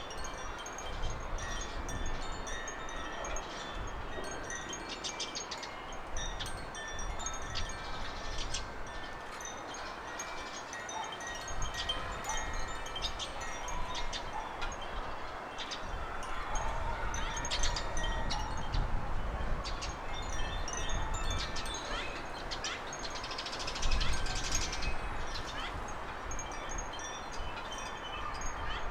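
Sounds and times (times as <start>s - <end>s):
wind chime tinkling: 0.0s - 28.9s.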